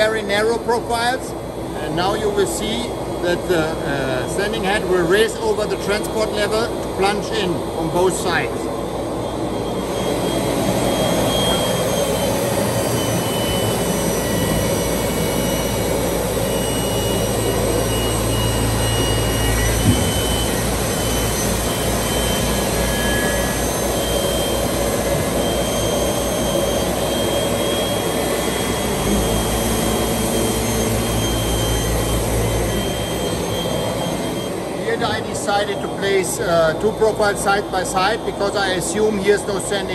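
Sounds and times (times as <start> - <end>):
low machine rumble: 0.0 - 39.9
brush sanding machine whirring: 1.9 - 39.9.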